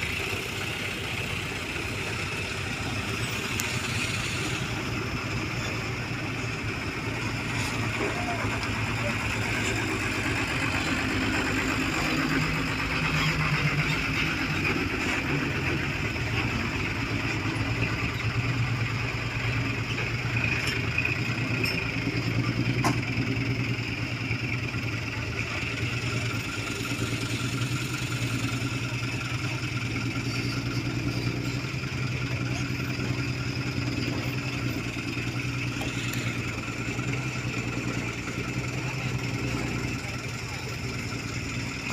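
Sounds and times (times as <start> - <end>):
diesel truck engines humming: 0.0 - 41.9.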